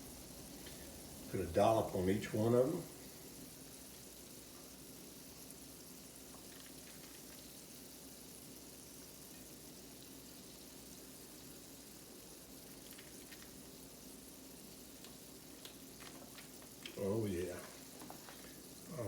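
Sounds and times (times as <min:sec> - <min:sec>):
faint background hiss: 0:00.0 - 0:19.0.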